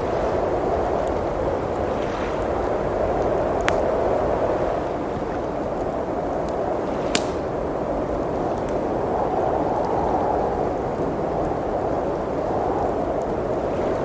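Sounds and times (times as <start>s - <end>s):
blizzard wind blowing: 0.0s - 14.0s
fireplace crackles: 0.0s - 14.0s.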